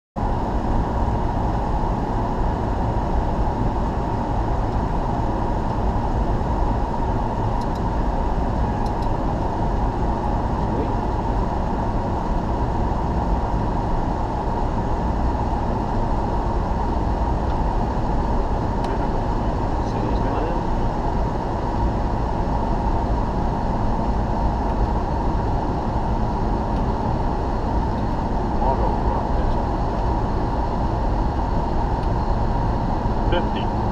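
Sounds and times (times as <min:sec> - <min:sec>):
jet cockpit airflow and engine noise: 0:00.2 - 0:33.9.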